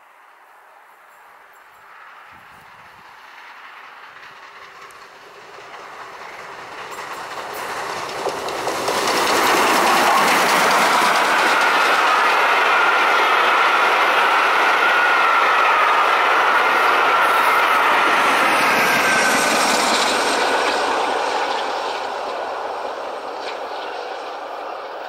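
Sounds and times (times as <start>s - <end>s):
train wheels rushing on rail: 0.8s - 25.0s.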